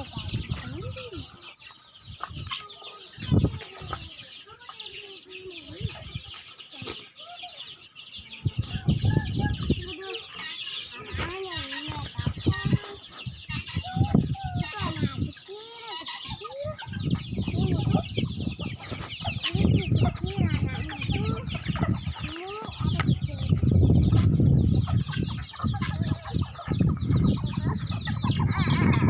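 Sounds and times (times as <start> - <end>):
chickens clucking: 0.0 - 29.0
high chirping: 0.0 - 29.0.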